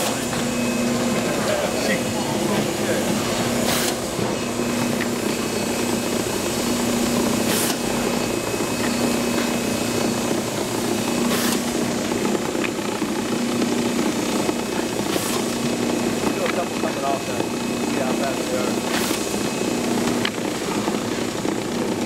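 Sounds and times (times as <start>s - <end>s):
laminator machine hum: 0.0s - 22.0s.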